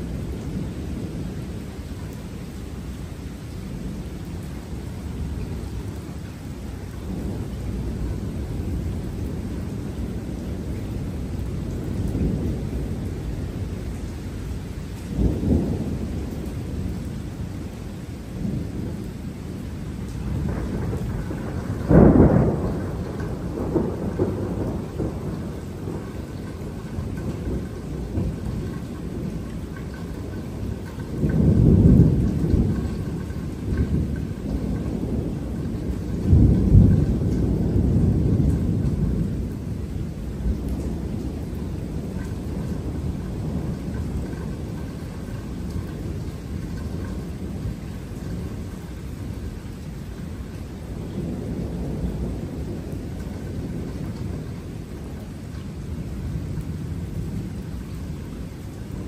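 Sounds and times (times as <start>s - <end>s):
steady rain: 0.0s - 59.0s
thunder rumbling: 0.0s - 59.0s.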